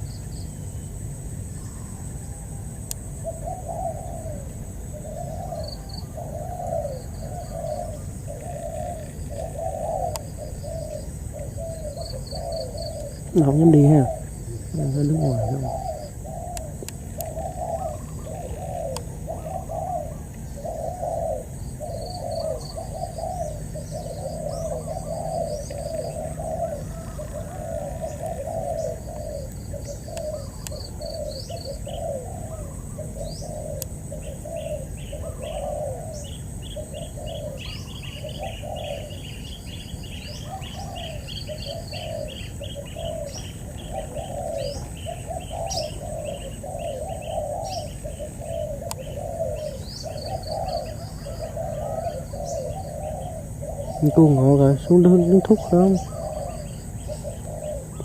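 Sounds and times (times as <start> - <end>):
doves cooing: 0.0 - 58.0
small birds chirping: 0.0 - 58.0.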